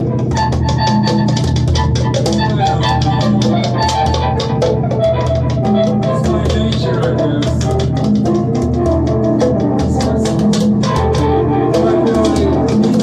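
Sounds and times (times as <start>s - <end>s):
drums beaten in busy rhythm: 0.0s - 13.0s
guitar: 0.0s - 13.0s
low bass line: 0.0s - 13.0s.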